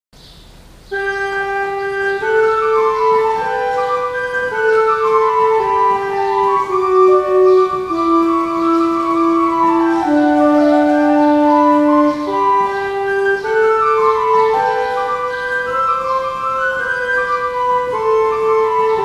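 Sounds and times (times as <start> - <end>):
pipe organ playing held notes: 0.8 - 19.0.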